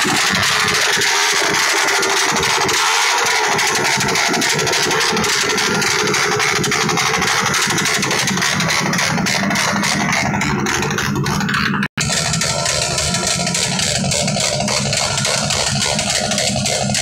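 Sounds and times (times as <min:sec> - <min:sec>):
small motorcycle engine revving high: 0:00.0 - 0:17.0.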